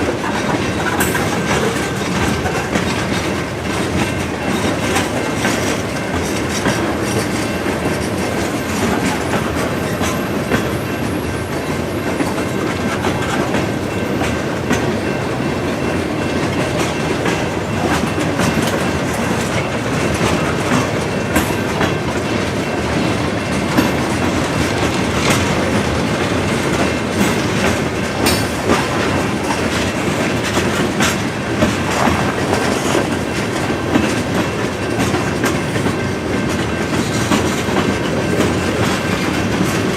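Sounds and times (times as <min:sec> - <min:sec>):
freight train wheels clicking: 0:00.0 - 0:39.9.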